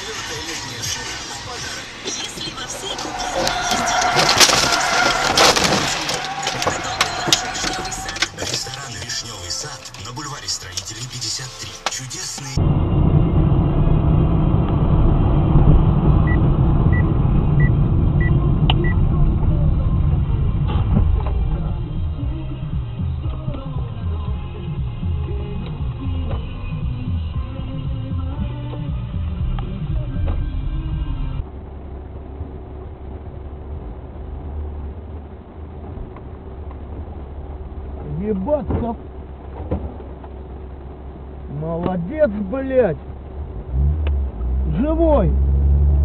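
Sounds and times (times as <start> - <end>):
moving car rumble: 0.0 - 46.0.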